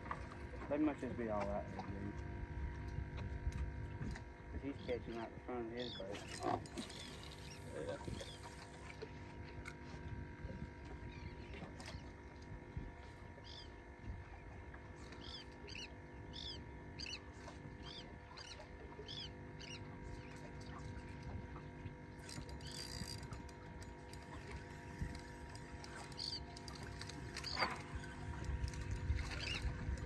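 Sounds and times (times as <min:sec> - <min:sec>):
low steady rumble: 0:00.0 - 0:30.0.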